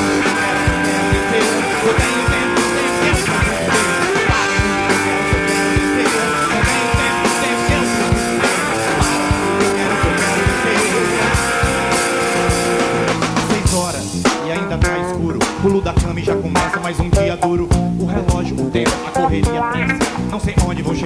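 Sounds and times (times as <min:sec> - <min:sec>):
drum kit beat: 0:00.0 - 0:21.0
guitar chords: 0:00.0 - 0:21.0.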